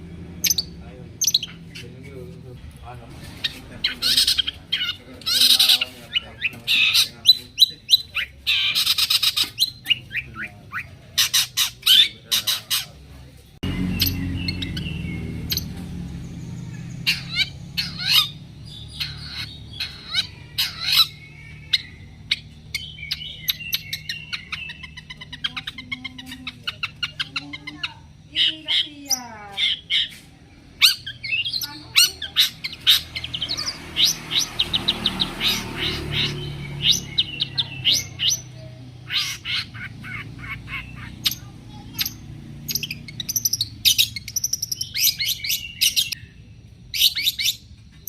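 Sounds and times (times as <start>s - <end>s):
bird singing rasping calls: 0.0s - 48.0s.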